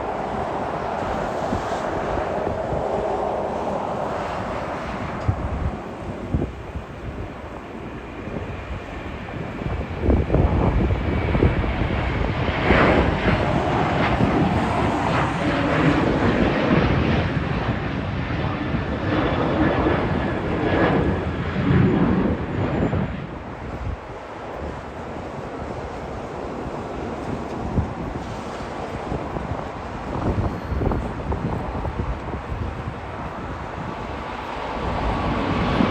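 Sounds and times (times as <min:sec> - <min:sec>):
jet engine roar: 0:00.0 - 0:35.9.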